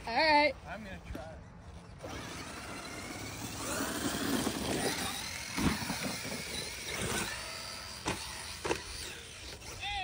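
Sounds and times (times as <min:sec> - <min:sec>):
tyres on dirt: 0:00.0 - 0:10.0
electric motor whining: 0:01.8 - 0:10.0.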